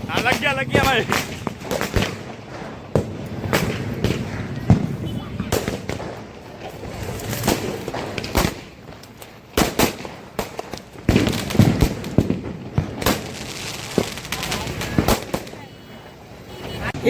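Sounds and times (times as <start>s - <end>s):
firecracker crackling: 0.0s - 17.0s
firecrackers banging: 0.0s - 17.0s.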